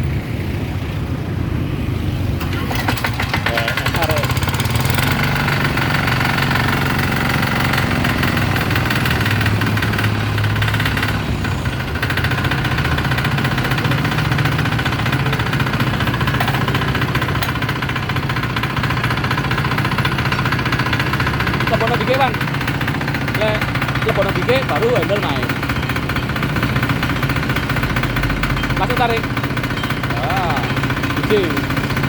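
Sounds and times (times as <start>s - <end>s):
diesel engine clattering: 2.1s - 32.0s.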